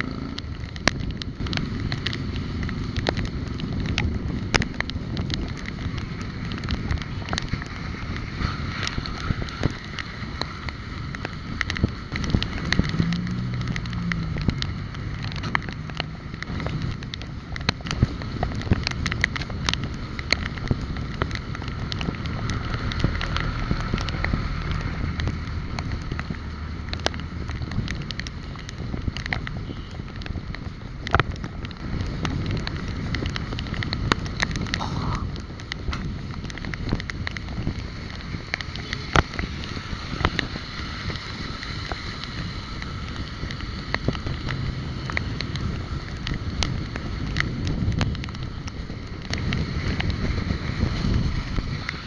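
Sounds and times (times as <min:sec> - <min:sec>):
low road rumble: 0:00.0 - 0:52.0
sharp clicks and rattles: 0:00.0 - 0:52.0
wind buffeting microphone: 0:00.0 - 0:52.0.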